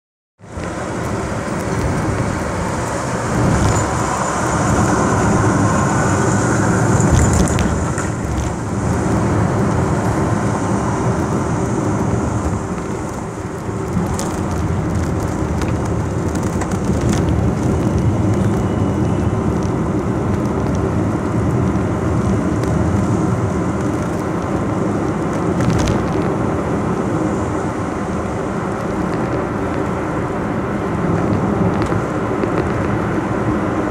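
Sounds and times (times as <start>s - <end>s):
vehicle rumbling at speed: 0.4s - 33.9s.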